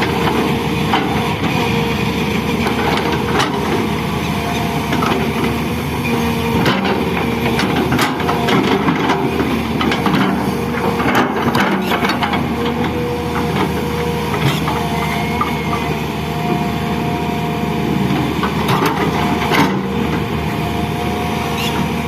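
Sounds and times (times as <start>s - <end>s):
excavator engine running: 0.0s - 22.0s
soil being dug and loaded: 0.0s - 22.0s.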